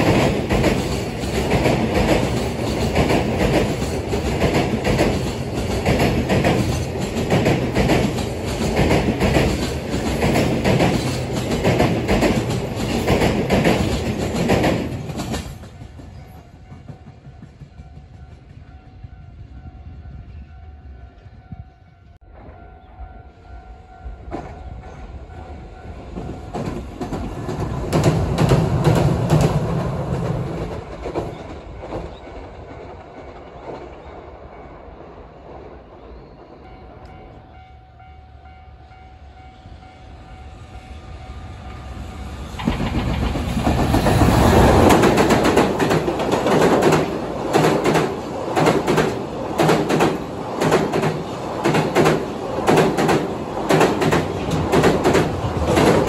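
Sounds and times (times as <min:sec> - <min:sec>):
electric locomotive arriving: 0:00.0 - 0:56.0
tram passing: 0:00.0 - 0:56.0.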